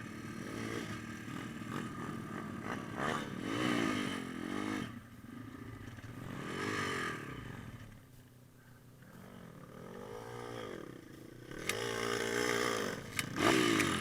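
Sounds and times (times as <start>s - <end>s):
pit bike engine revving: 0.0s - 8.0s, 9.2s - 14.0s.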